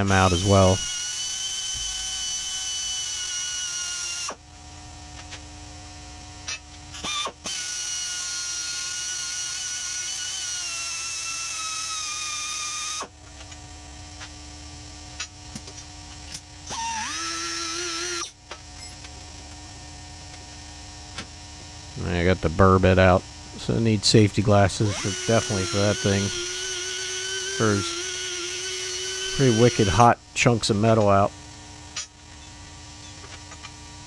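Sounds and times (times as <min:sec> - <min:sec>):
die grinder high whine: 0:00.0 - 0:19.2, 0:21.6 - 0:34.0
steady low hum: 0:00.0 - 0:34.0.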